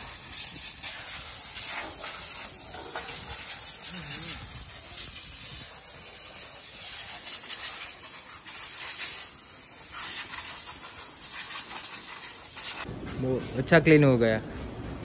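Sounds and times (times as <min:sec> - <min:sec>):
compressed air hissing: 0:00.0 - 0:12.9.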